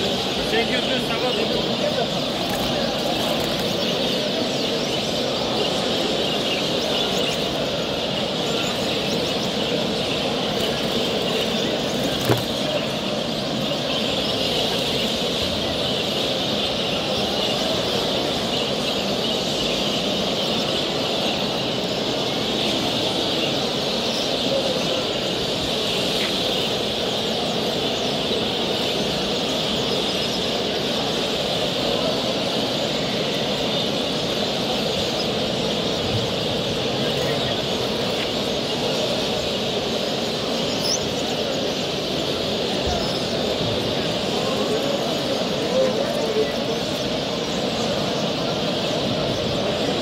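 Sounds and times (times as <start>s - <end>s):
many birds chirping and singing: 0.0s - 50.0s.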